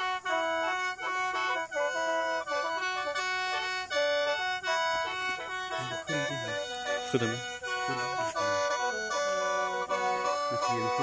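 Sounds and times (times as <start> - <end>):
mouth organ melody over drone: 0.0 - 11.0.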